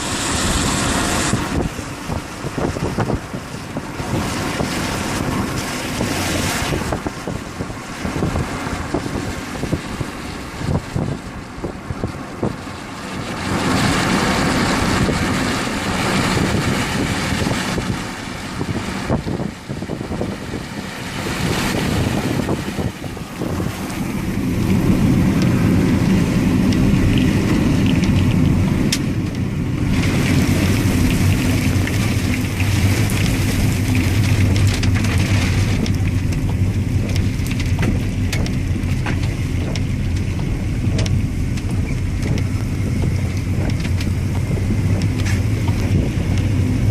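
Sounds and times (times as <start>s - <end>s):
wind gusting on microphone: 0.0s - 46.9s.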